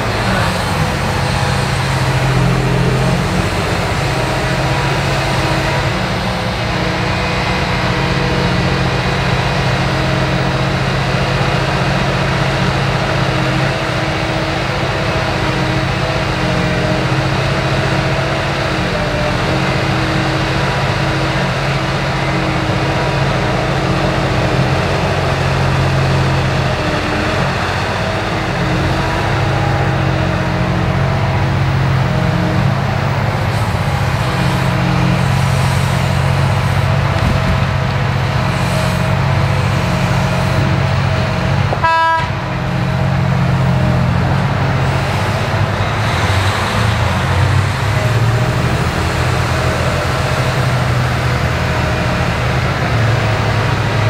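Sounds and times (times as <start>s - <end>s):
heavy engine drone: 0.0s - 54.0s.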